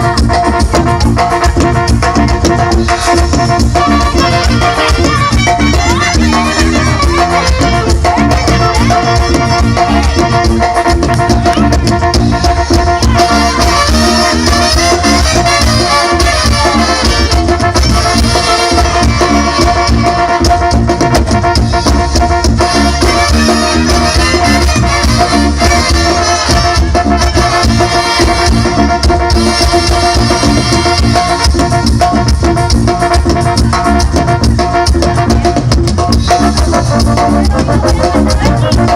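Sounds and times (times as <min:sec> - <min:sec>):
latin music with steady beat: 0:00.0 - 0:38.9.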